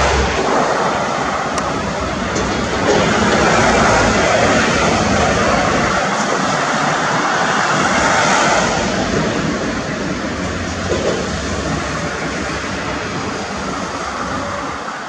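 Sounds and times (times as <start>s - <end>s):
large vehicle passing: 0.0s - 15.0s
road traffic rushing past: 0.0s - 15.0s.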